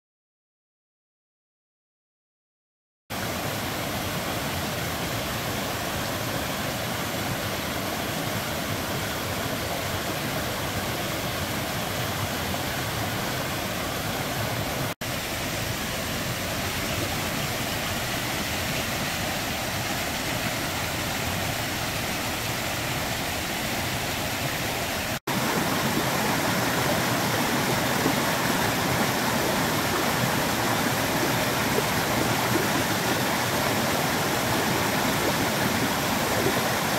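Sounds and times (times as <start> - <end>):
stream rushing over rocks: 3.1 - 36.9.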